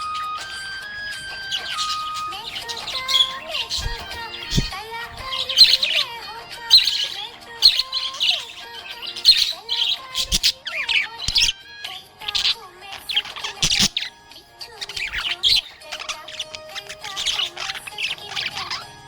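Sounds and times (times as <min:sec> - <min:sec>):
budgerigars chirping and warbling: 0:00.0 - 0:19.0.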